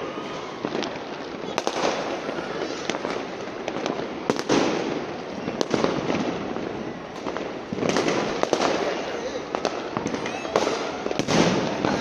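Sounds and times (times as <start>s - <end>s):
firecracker bangs: 0.0s - 12.0s
fireworks crackling hiss: 0.0s - 12.0s.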